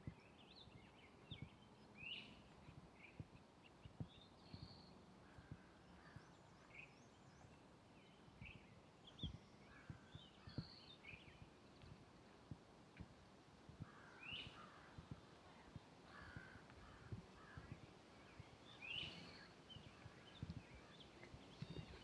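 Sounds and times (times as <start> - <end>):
small birds chirping: 0.0 - 22.0
faint footsteps on forest trail: 0.1 - 22.0.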